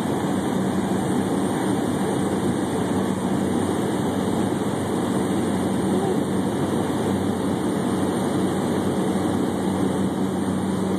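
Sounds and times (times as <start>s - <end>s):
light aircraft engine drone: 0.0s - 10.9s.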